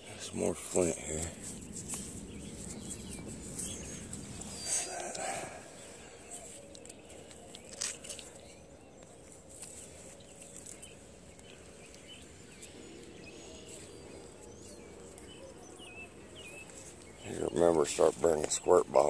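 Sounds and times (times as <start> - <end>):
footsteps on soil: 0.6 - 18.7
faint bird chirps: 0.8 - 19.0.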